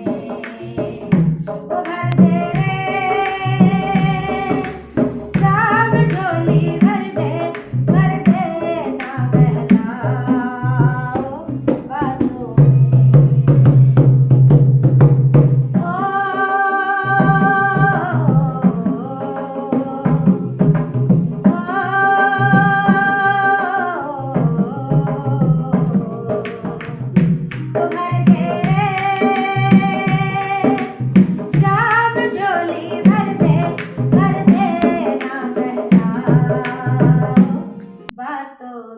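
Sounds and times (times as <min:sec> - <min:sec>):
woman singing: 0:00.0 - 0:13.5, 0:15.8 - 0:20.6, 0:21.4 - 0:38.9
drums: 0:00.0 - 0:16.4, 0:17.0 - 0:23.5, 0:24.4 - 0:38.0.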